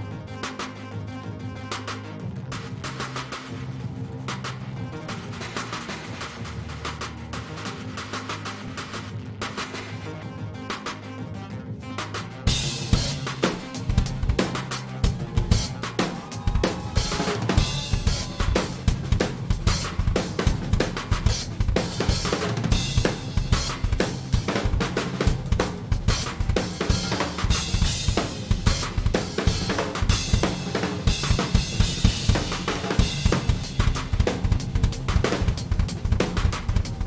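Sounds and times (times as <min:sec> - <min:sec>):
drum kit played fast: 0:01.7 - 0:10.1, 0:12.0 - 0:37.0.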